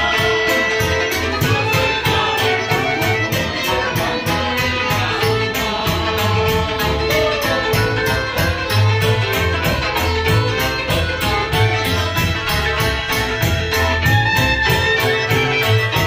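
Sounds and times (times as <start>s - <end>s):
folk band playing dance tune: 0.0s - 16.0s
large drum beat: 0.0s - 16.0s.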